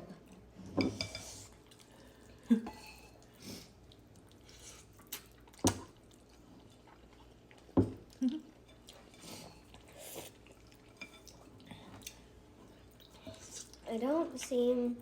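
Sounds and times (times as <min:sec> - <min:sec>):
chewing and mouth sounds: 0:01.5 - 0:14.5.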